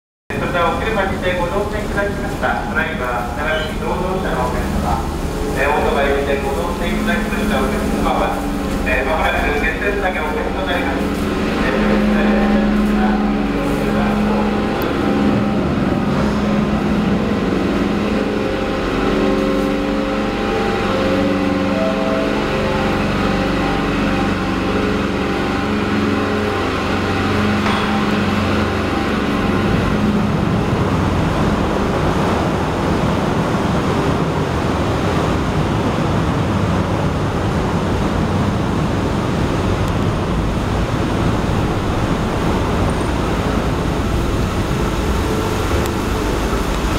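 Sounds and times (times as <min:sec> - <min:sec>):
even rushing noise: 0:00.3 - 0:46.9
low hum with steady tones: 0:00.3 - 0:46.9
ship engines droning: 0:00.3 - 0:46.9.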